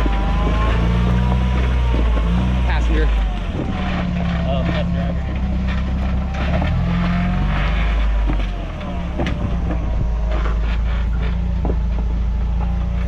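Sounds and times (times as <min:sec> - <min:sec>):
truck knocking on rock: 0:00.0 - 0:02.6, 0:03.2 - 0:13.0
truck engine crawling: 0:00.0 - 0:13.0.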